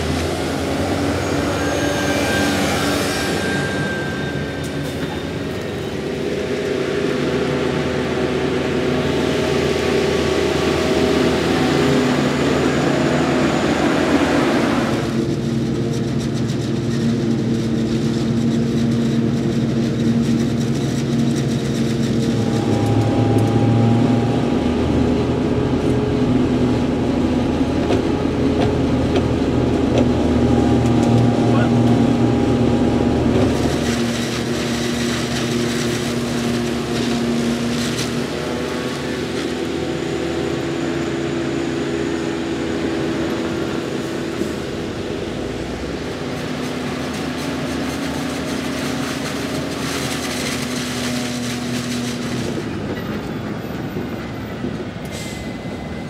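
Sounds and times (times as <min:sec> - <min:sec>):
tractor engines droning: 0:00.0 - 0:56.0.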